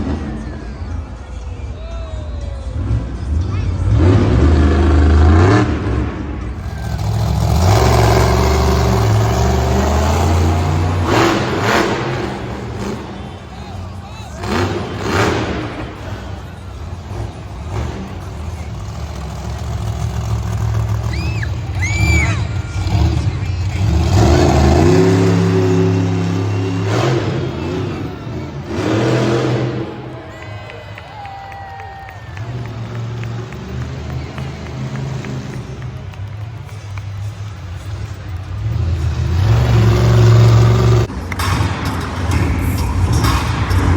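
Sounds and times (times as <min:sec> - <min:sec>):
truck engine at high revs: 0:02.7 - 0:30.4, 0:32.2 - 0:43.9.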